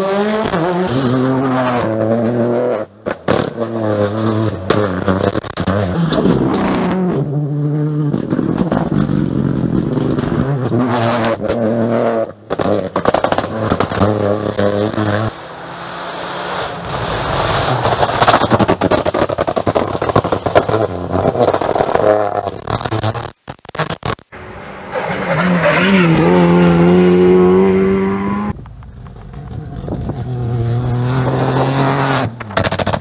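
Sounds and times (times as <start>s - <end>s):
rally car engine at full throttle: 0.0s - 22.9s, 24.3s - 33.0s.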